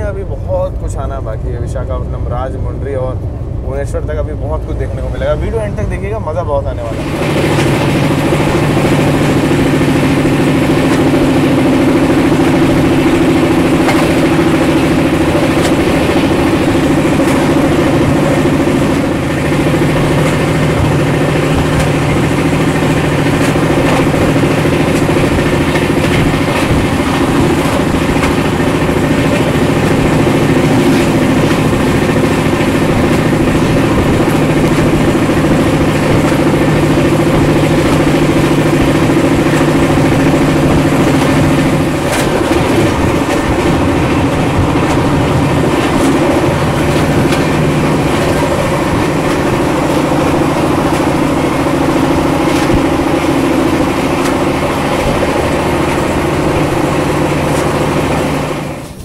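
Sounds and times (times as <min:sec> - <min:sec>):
moving train rumble: 0:00.0 - 0:59.0.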